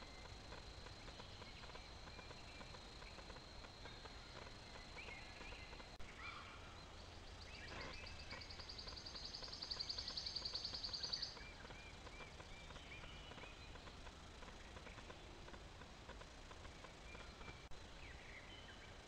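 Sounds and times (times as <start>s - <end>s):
bird chirps: 0.0s - 15.5s, 16.5s - 19.0s
songbird trill: 0.0s - 19.0s.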